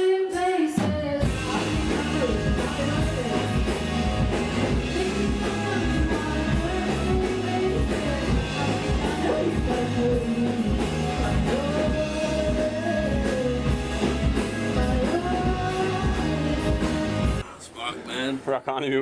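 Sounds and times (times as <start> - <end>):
person singing: 0.0 - 3.8, 4.7 - 14.1, 14.7 - 17.4
electric guitar: 0.8 - 17.4
bass guitar: 0.9 - 17.4
drum-kit beat: 1.2 - 17.4.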